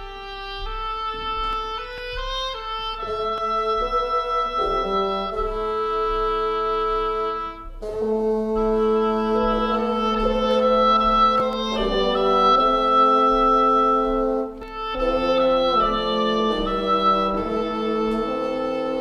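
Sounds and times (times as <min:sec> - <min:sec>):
wind instruments holding notes: 0:00.0 - 0:19.0.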